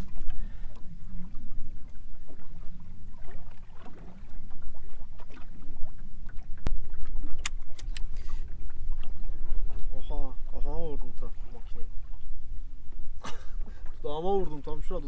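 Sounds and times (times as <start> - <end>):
boat low rumble: 0.0 - 15.0.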